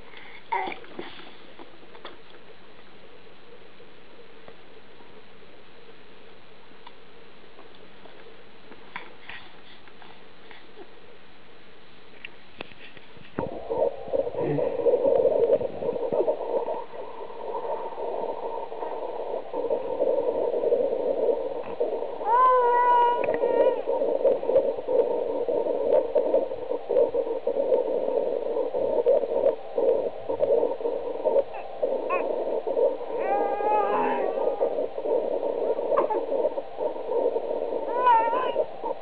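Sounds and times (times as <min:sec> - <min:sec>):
steady noisy hum: 0:00.0 - 0:39.0.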